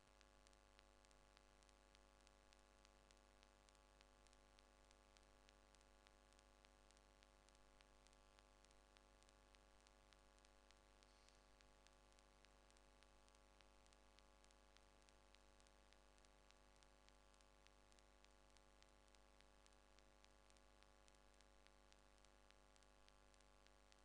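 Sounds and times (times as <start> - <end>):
faint steady hum: 0.0 - 24.0
faint clicks: 0.4 - 24.0.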